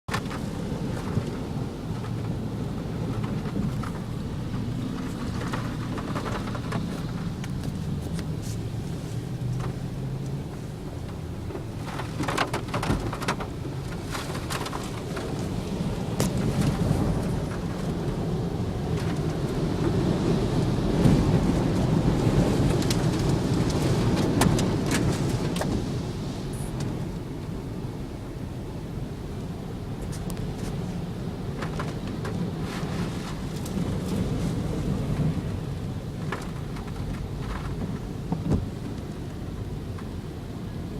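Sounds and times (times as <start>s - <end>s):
low rumble of car and storm: 0.0s - 40.9s
rain beating on a car: 0.1s - 40.9s.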